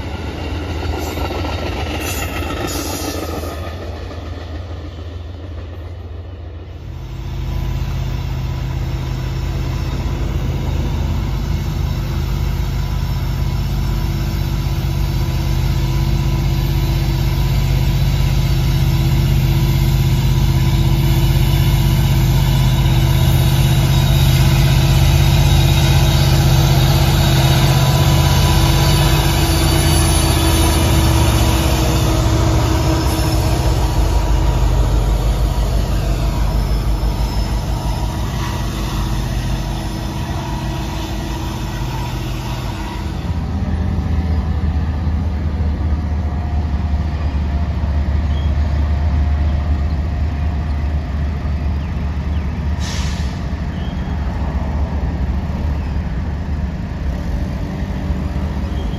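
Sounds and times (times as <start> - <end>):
diesel locomotive engine running: 0.0 - 58.9.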